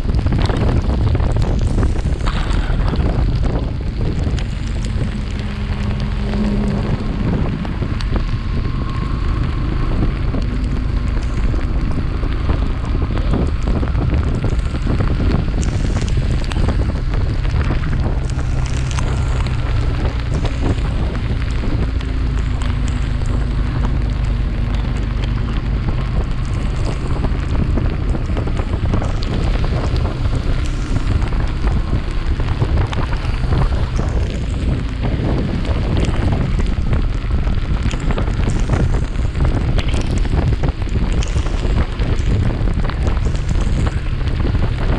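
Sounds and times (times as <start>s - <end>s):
motorcycle engine running: 0.0s - 44.9s
wind rushing over microphone: 0.0s - 44.9s.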